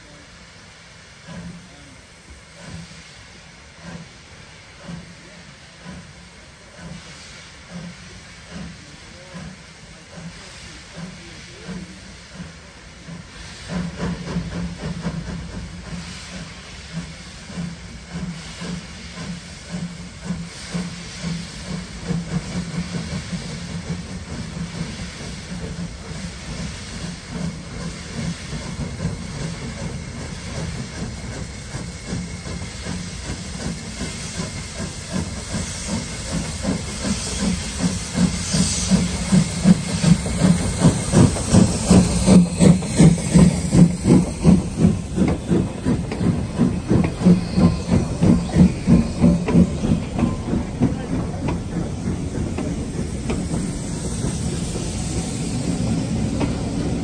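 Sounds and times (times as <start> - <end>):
steady hiss of steam: 0.0 - 57.0
steam locomotive exhaust beats: 0.0 - 57.0.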